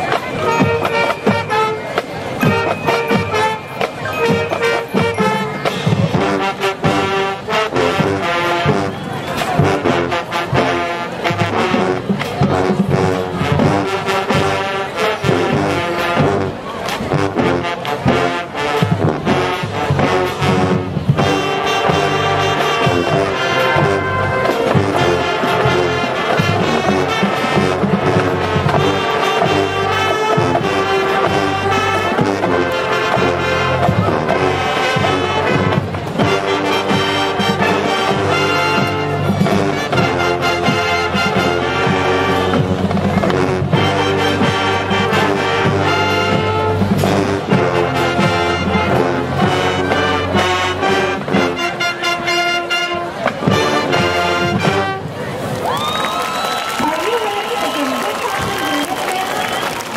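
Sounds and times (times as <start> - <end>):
marching band playing: 0.0 - 59.9
horns holding long chords: 0.1 - 55.4.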